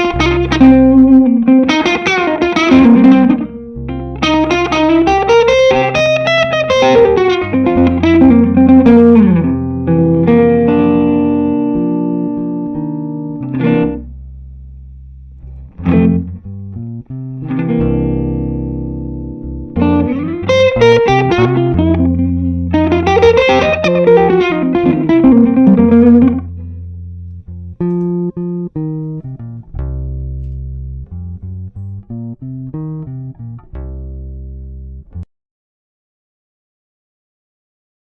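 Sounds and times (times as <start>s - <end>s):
electric guitar playing blues: 0.0s - 14.1s, 15.4s - 35.2s
steady low notes: 0.0s - 35.3s.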